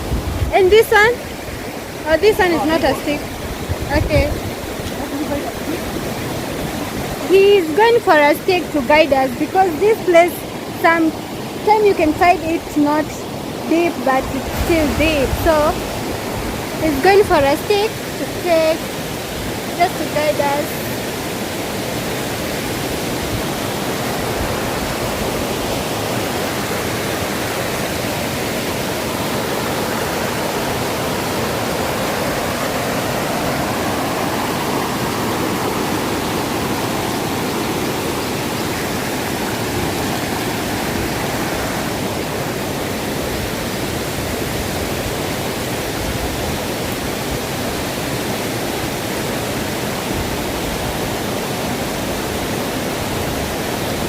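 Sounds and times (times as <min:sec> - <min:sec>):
river and waterfall rushing: 0:00.0 - 0:54.0.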